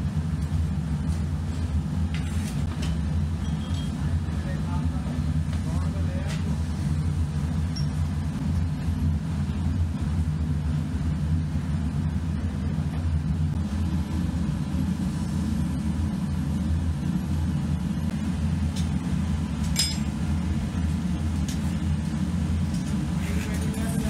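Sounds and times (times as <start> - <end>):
low machine drone: 0.0 - 24.0.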